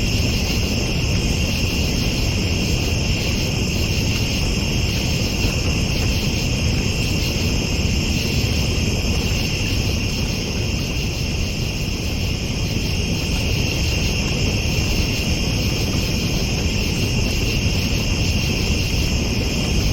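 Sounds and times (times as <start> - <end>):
night insects chirring: 0.0 - 19.9.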